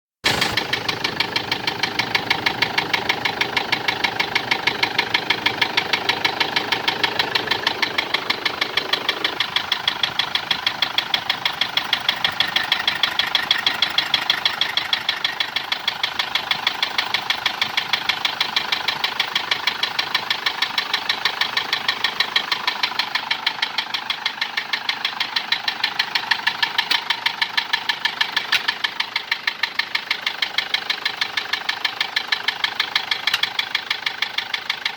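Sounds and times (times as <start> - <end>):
diesel engine idling with knock: 0.2 - 34.9.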